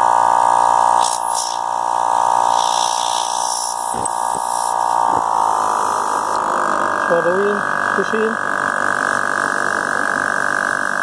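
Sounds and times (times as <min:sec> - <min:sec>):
tire inflator buzzing hum: 0:00.0 - 0:11.0.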